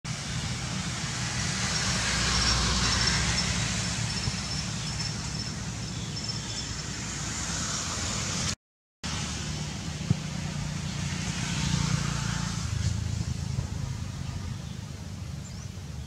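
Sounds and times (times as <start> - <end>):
road traffic rumble and hiss: 0.1 - 16.0.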